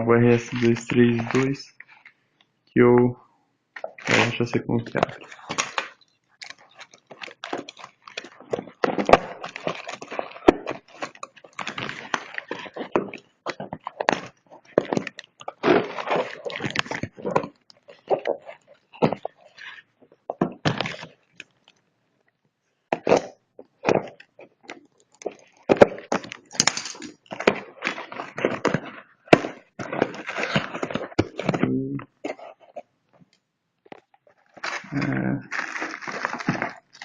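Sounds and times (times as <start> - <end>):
packaging rustling and crinkling: 0.2 - 2.2, 3.8 - 21.8, 22.9 - 31.6, 32.2 - 37.0.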